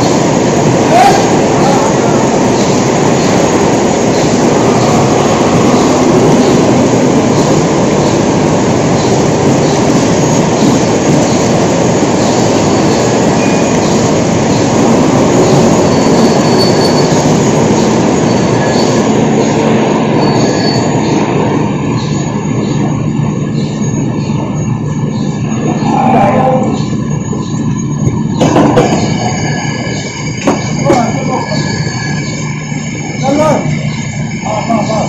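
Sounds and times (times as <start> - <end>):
heavy machinery rumble: 0.0 - 35.0.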